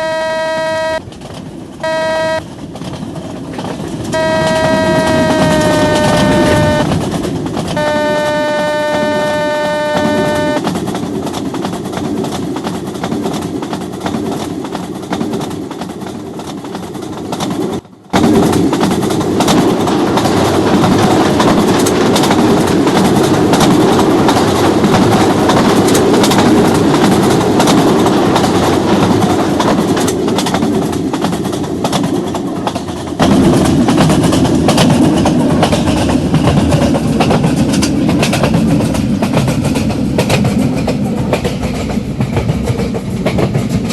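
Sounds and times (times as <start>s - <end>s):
train wheels clattering on rails: 1.0s - 43.9s.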